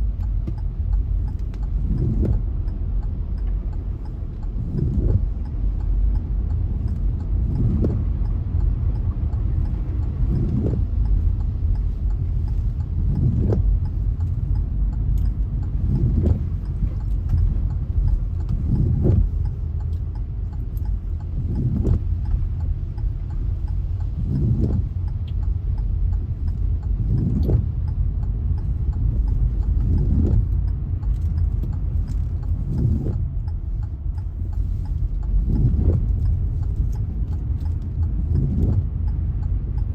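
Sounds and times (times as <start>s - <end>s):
car driving in heavy rain: 0.0s - 39.9s
windscreen wiper sweeping: 0.0s - 39.9s.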